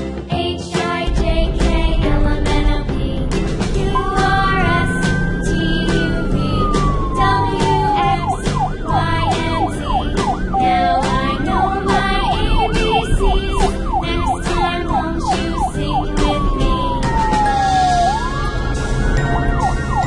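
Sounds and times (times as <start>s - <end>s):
background music with beat: 0.0s - 20.0s
police siren: 3.7s - 20.0s.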